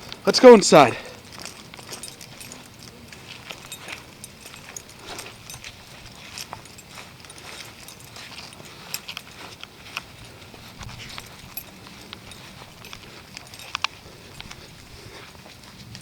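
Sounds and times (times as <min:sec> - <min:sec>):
footsteps on hard surface: 0:00.0 - 0:16.0.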